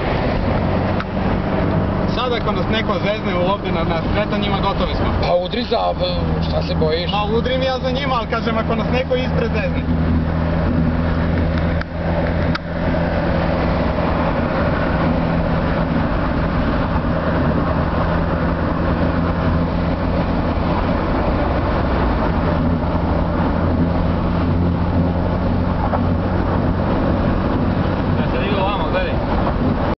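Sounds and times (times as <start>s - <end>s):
car engine droning: 0.0s - 29.9s.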